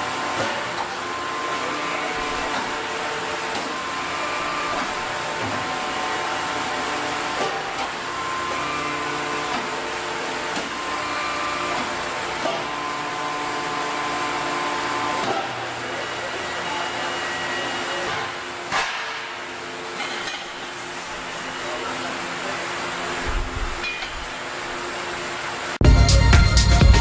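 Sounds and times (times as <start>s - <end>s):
factory machinery whirring: 0.0s - 25.8s.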